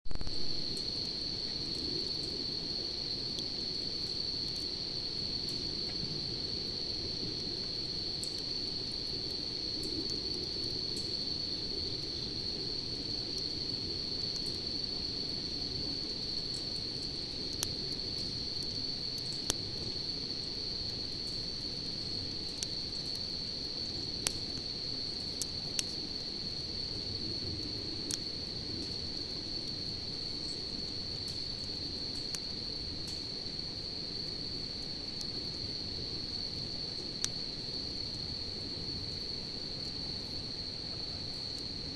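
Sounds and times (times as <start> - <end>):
campfire crackling: 0.1 - 41.9
crickets chirring: 0.1 - 41.9.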